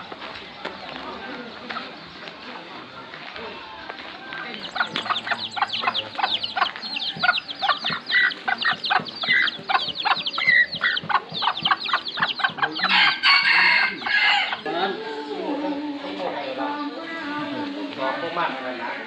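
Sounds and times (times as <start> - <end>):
chickens clucking and peeping: 0.0 - 19.0.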